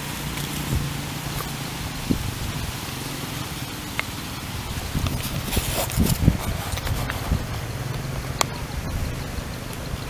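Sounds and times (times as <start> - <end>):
rushing background noise: 0.0 - 10.0.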